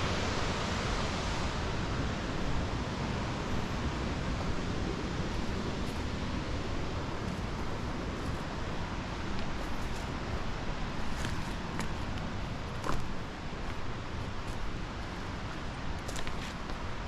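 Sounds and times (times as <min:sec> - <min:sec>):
distant waterfall rushing: 0:00.0 - 0:17.0.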